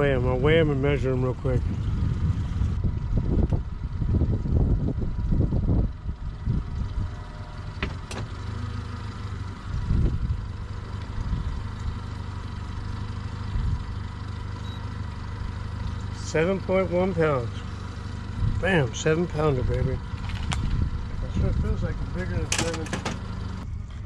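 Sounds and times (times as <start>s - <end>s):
boat motor idling: 0.0s - 23.6s.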